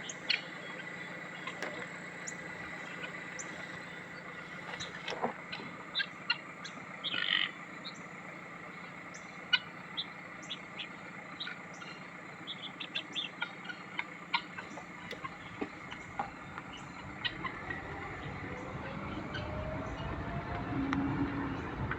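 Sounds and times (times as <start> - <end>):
guinea fowl chirping: 0.0 - 8.0, 8.8 - 20.0
faint rising hum: 0.0 - 21.9.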